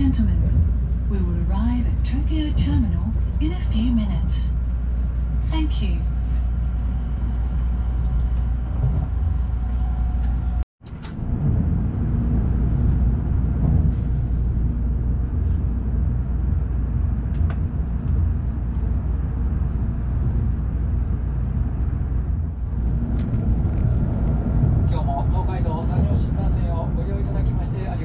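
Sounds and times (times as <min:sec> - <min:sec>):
train cabin hum: 0:00.0 - 0:28.0
train running rumble: 0:00.0 - 0:28.0.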